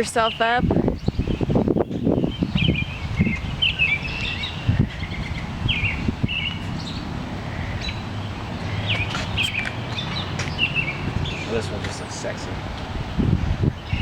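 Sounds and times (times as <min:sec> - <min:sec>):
small birds chirping: 0:00.0 - 0:12.4, 0:13.0 - 0:14.0.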